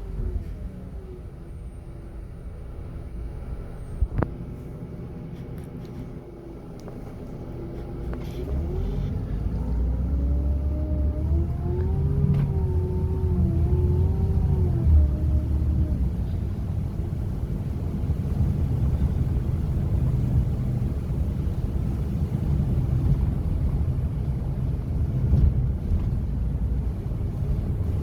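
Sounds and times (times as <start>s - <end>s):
coach diesel engine: 0.0s - 28.0s
road rumble: 0.0s - 28.0s.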